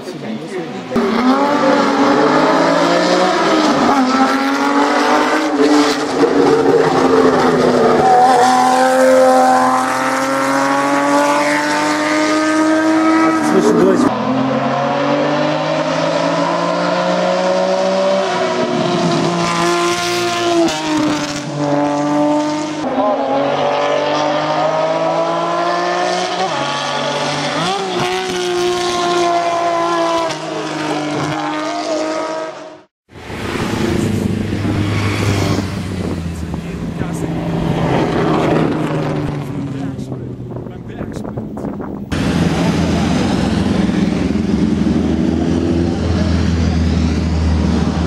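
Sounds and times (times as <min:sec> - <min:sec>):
race car engine revving: 0:00.7 - 0:48.0.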